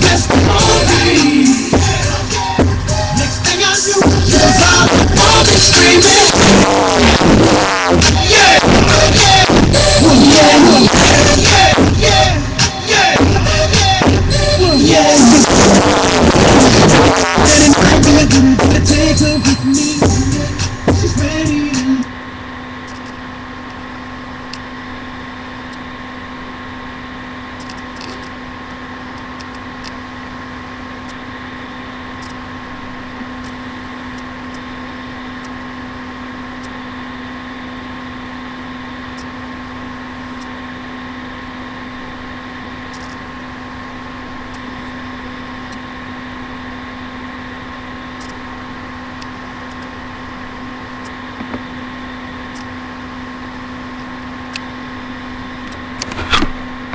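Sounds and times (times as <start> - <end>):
electrical hum and hiss: 0.0 - 56.9.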